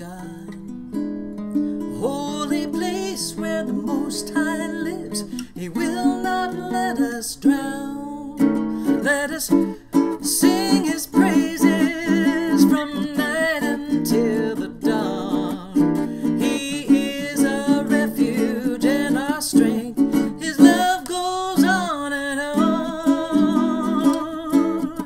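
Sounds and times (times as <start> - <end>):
woman singing wordlessly: 0.0 - 0.8, 1.9 - 25.0
ukulele blues accompaniment: 0.0 - 25.0.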